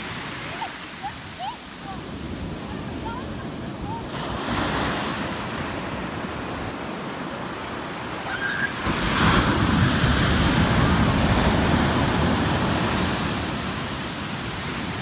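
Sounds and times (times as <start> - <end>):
wave crashing on shore: 0.0 - 15.0.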